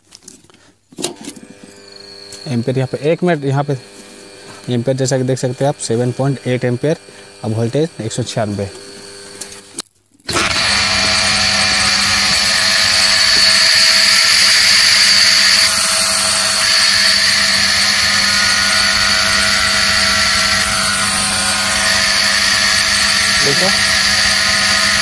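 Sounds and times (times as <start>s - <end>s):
electric motor hum and whine: 1.2s - 25.0s.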